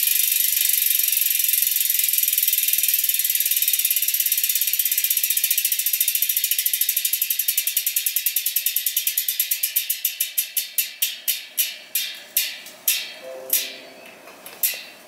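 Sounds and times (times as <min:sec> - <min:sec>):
bicycle freehub ticking: 0:00.0 - 0:13.7.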